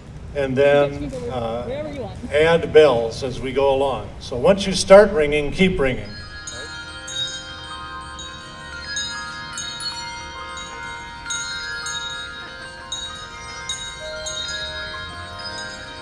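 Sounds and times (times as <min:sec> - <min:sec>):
bells ringing: 0:01.0 - 0:16.0.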